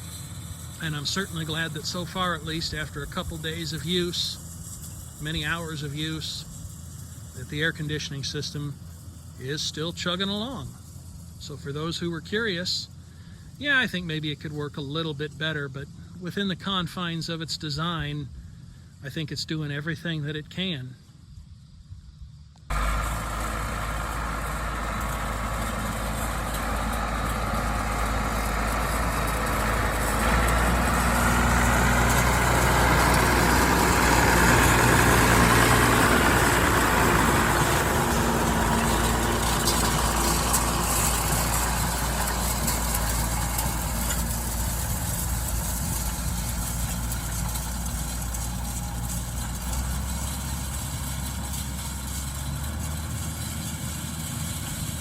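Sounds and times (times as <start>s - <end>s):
tractor diesel engine running: 0.0s - 21.8s, 22.4s - 55.0s.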